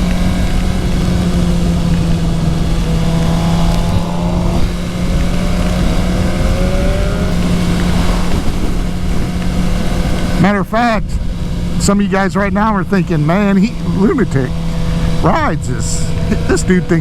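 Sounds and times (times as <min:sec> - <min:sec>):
faint rising engine whine: 0:00.0 - 0:17.0
motorcycle engine running: 0:00.0 - 0:17.0
wind rumble: 0:00.0 - 0:17.0.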